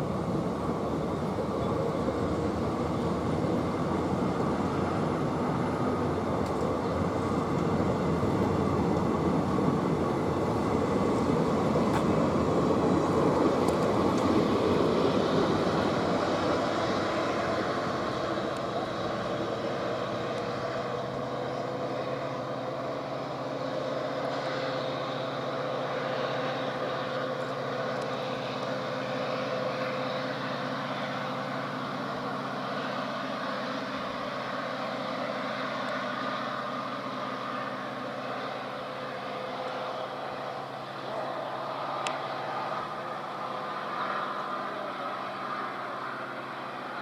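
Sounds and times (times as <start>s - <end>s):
diesel locomotive engine droning: 0.0s - 47.0s.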